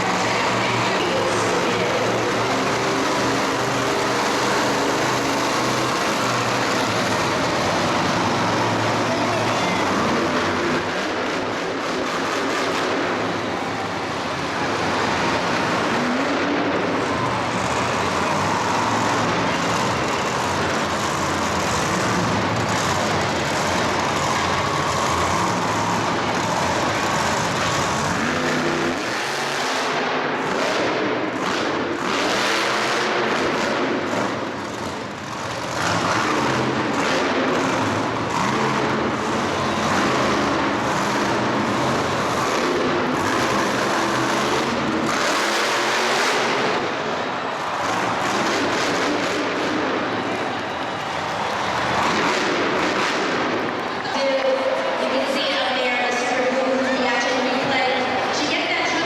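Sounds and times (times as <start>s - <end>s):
vehicle engines revving: 0.0s - 59.0s.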